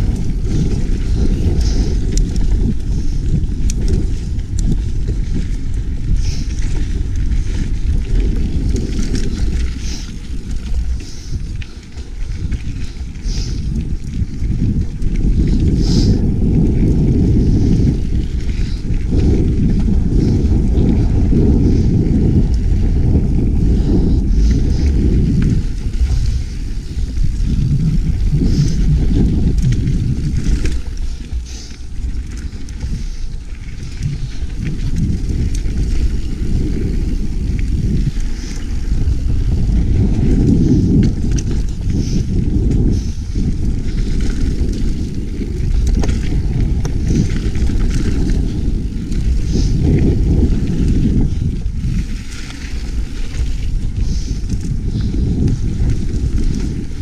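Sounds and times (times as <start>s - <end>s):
bike tyres rolling over dirt: 0.0s - 57.0s
wind rumbling on microphone: 0.0s - 57.0s.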